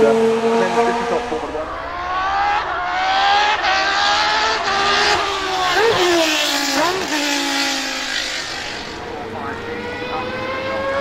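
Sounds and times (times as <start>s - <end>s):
race car engine passing: 0.0s - 11.0s.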